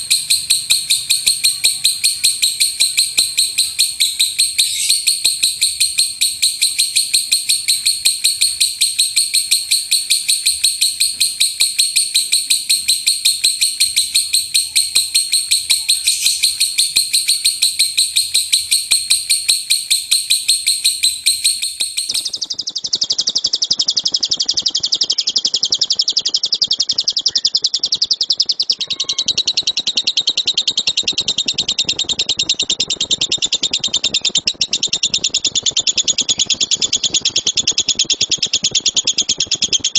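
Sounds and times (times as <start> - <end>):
lovebird shrill chattering song: 0.0 - 39.7.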